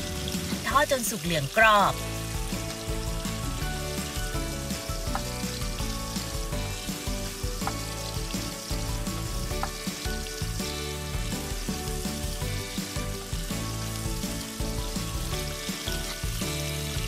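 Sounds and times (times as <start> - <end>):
deep-frying sizzle in oil: 0.0 - 17.0.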